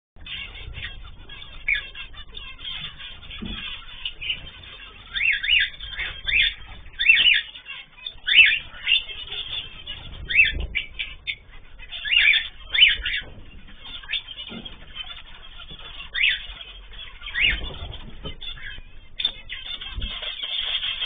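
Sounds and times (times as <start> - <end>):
cage birds chirping: 0.2 - 21.0.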